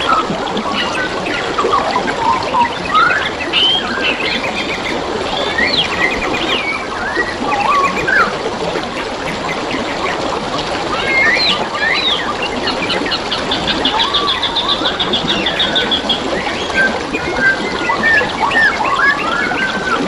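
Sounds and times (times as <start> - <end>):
birds whistling and trilling: 0.0 - 10.3, 10.9 - 20.0
water trickling: 0.0 - 20.0.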